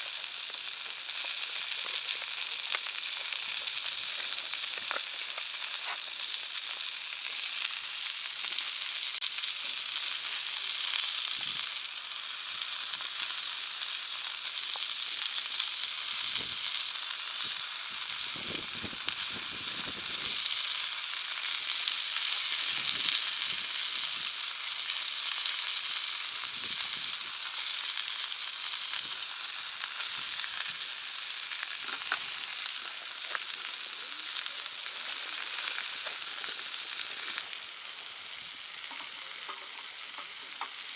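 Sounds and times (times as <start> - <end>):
meat sizzling on grill pan: 0.0 - 40.9.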